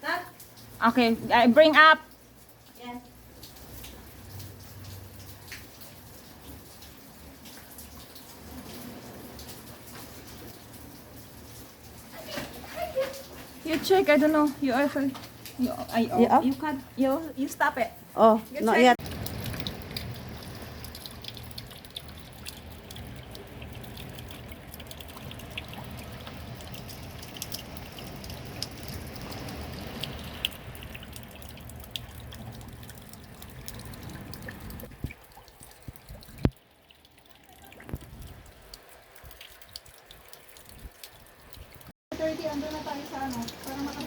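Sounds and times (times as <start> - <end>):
water dripping: 0.0 - 44.0
water lapping and splashing: 0.4 - 44.0.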